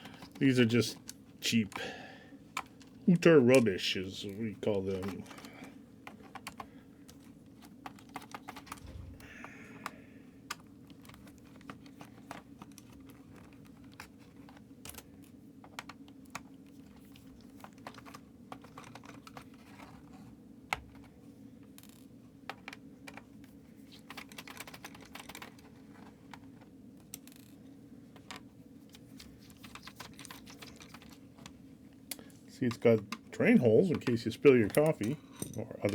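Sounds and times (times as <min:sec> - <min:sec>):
plastic keyboard clicks and rattles: 0:00.0 - 0:35.9.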